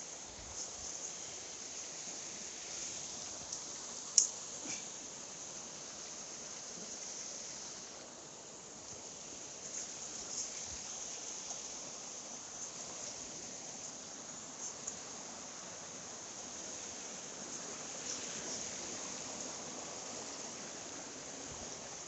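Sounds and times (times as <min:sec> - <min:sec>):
insects chirping: 0:00.0 - 0:22.0
stream water rushing: 0:00.0 - 0:22.0.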